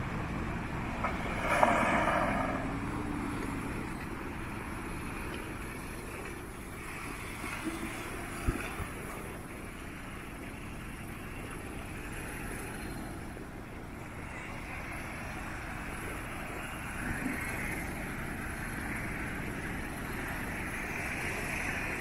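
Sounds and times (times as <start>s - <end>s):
off-road engines running: 0.0s - 22.0s.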